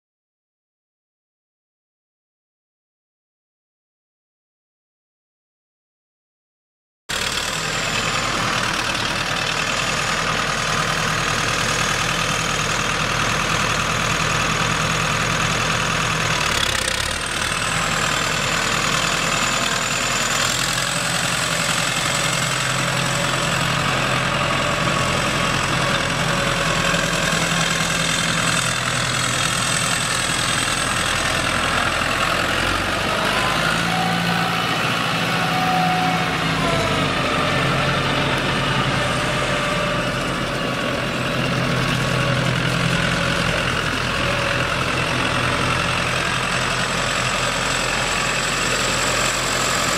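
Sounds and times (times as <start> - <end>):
tractor diesel engine idling: 7.1 - 49.9.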